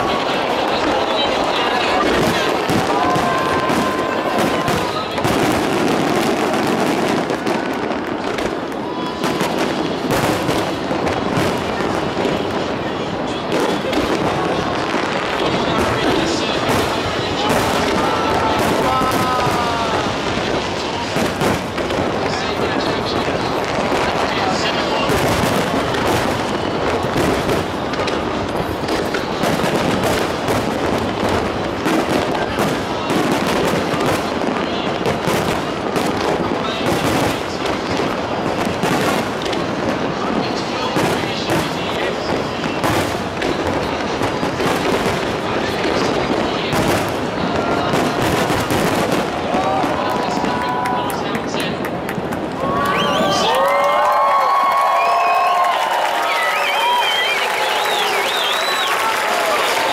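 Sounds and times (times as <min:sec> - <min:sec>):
crowd chatter: 0:00.0 - 0:59.9
fireworks bangs and crackles: 0:00.0 - 0:59.9.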